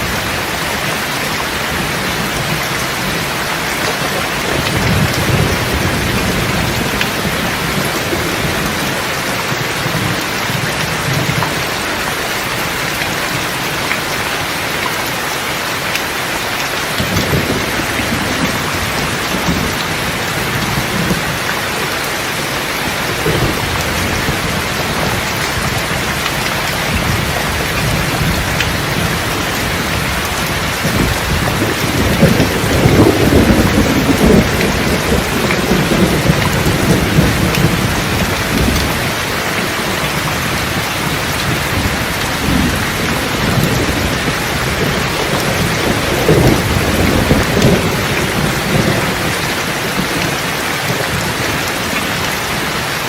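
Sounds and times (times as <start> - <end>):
thunder rumbling: 0.0 - 14.5, 16.3 - 52.9
steady rain: 0.0 - 53.0.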